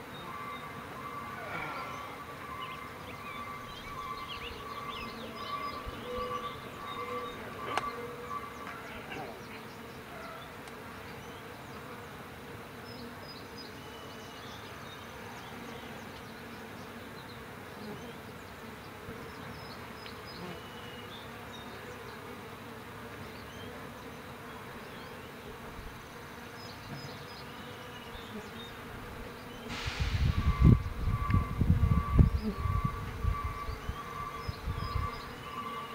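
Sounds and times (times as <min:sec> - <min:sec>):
honeybees buzzing: 0:00.0 - 0:35.9.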